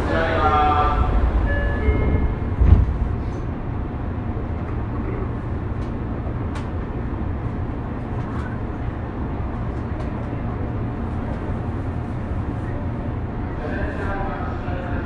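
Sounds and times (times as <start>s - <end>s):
train running gear rumble: 0.0s - 15.0s.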